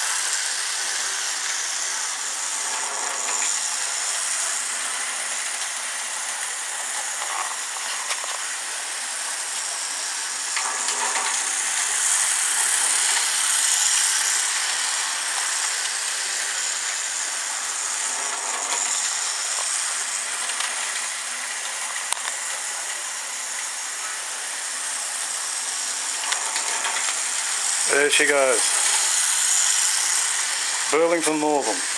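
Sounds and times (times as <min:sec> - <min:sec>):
model train motor whirring: 0:00.0 - 0:31.9.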